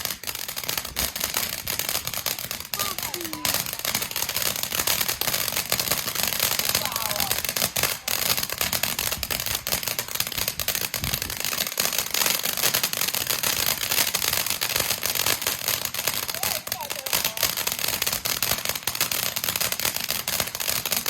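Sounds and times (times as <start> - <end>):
firework crackling and hissing: 0.0 - 21.0.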